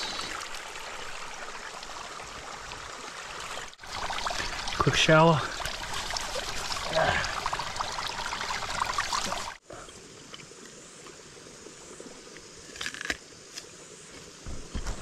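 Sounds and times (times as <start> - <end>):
water splashing and trickling: 0.0 - 12.4
quiet forest background: 0.0 - 15.0.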